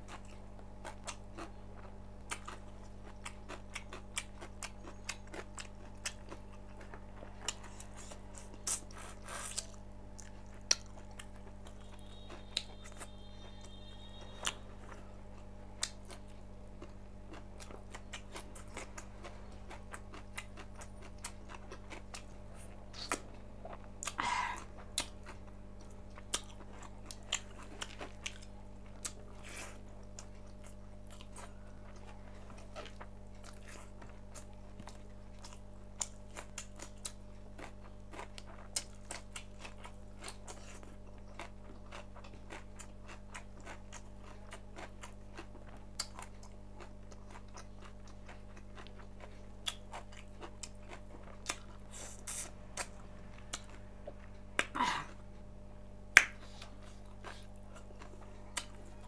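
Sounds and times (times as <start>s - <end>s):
close chewing and biting: 0.0s - 54.7s, 56.2s - 59.0s
steady low hum: 0.0s - 59.0s.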